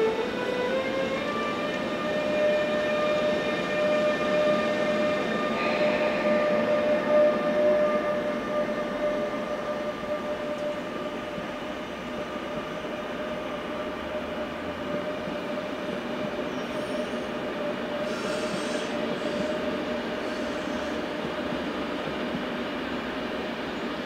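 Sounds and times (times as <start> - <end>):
moving train rumble: 0.0 - 24.0
train wheels squealing: 0.0 - 24.0.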